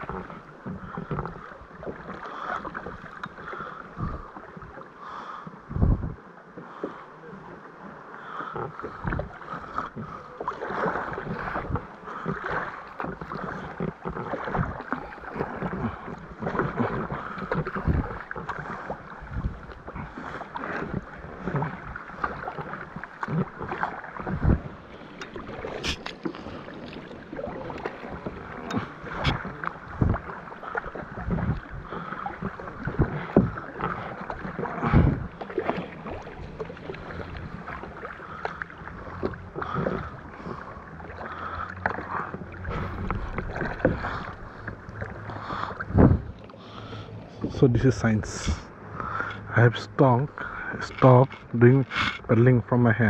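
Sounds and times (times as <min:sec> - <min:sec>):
paddle splashing: 0:00.0 - 0:53.0
water sloshing against hull: 0:00.0 - 0:53.0.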